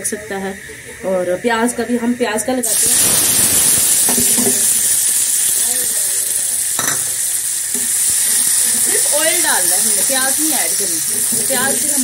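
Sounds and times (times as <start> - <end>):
onions sizzling in oil: 0.3 - 12.0.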